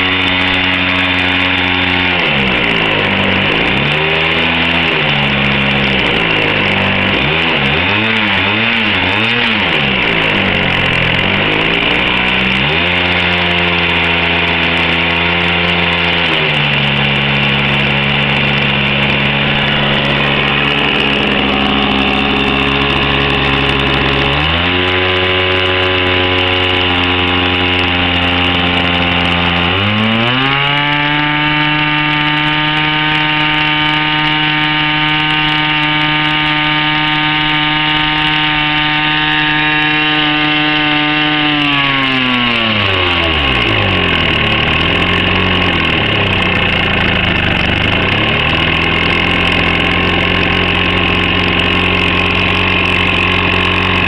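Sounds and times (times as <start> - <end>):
model aircraft engine running: 0.0 - 54.0.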